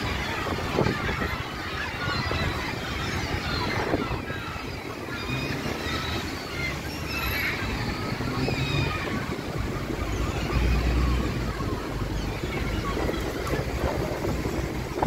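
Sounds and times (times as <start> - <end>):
gulls squabbling: 0.0 - 15.0
street traffic rumble: 0.0 - 15.0
wind on microphone: 0.0 - 15.0.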